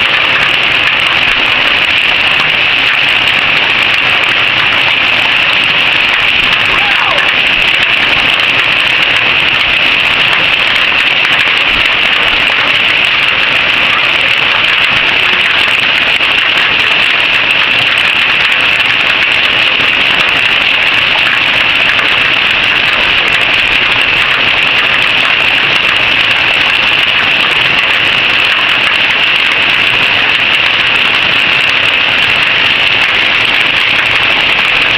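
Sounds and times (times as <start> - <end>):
hail falling heavily: 0.0 - 34.9.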